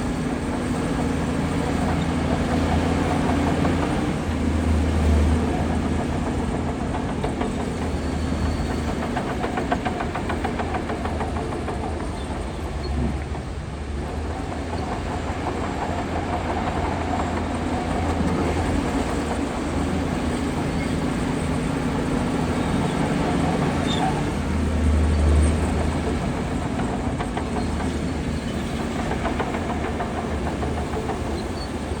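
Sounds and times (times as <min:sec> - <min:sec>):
heavy diesel machinery drone: 0:00.0 - 0:32.0
fast regular clicks: 0:05.4 - 0:32.0.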